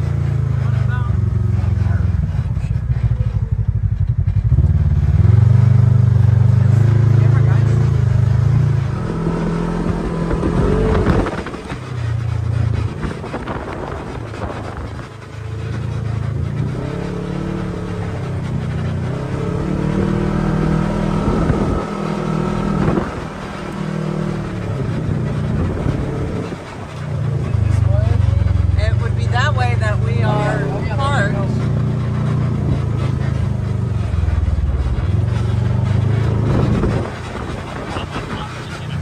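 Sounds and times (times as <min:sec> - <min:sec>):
utility vehicle engine running: 0:00.0 - 0:39.0.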